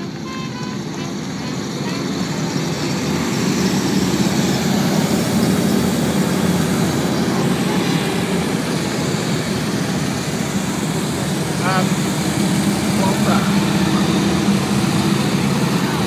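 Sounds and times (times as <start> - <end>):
motorcycle engines rumbling past: 0.8 - 16.0.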